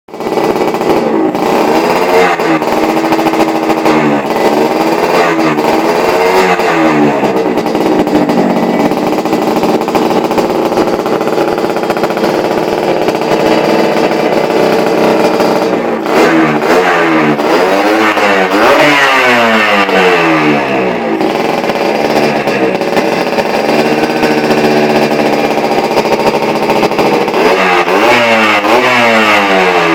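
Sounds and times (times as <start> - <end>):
motorcycle engine revving: 0.1 - 29.9.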